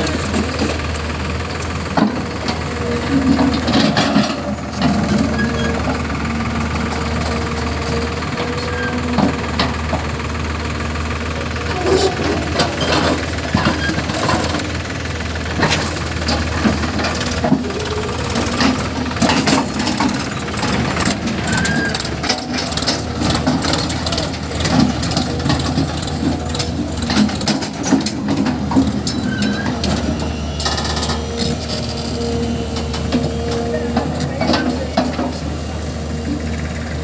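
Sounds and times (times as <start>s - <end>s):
diesel engines running: 0.0s - 37.0s
knocks and clanks: 1.9s - 10.2s, 11.7s - 14.8s, 15.5s - 35.7s.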